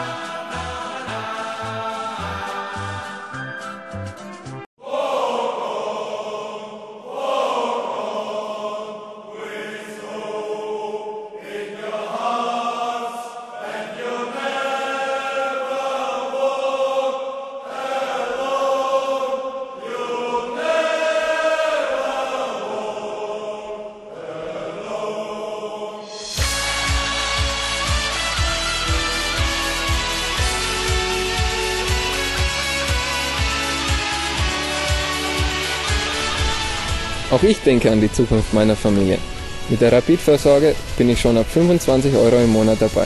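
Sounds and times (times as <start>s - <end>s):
group of voices singing: 0.0s - 3.5s, 4.8s - 37.6s.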